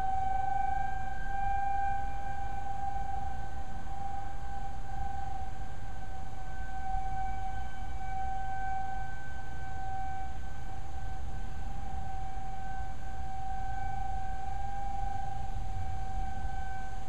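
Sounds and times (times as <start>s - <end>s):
civil defense siren steady tone: 0.0s - 17.0s.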